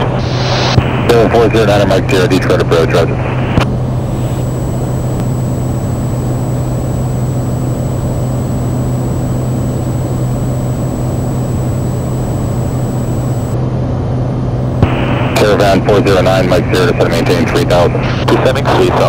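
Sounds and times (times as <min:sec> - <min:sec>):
turboprop engine and propeller drone: 0:00.9 - 0:19.0.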